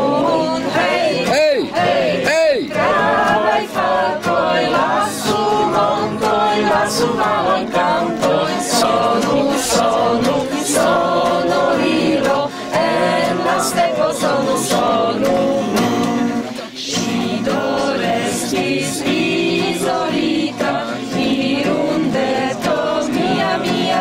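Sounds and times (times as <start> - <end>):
group of people singing: 0.0 - 24.0.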